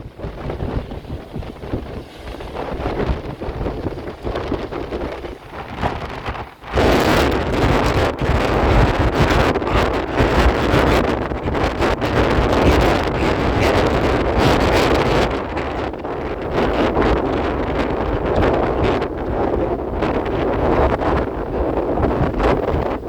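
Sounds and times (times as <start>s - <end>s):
wind gusting on microphone: 0.0s - 23.0s.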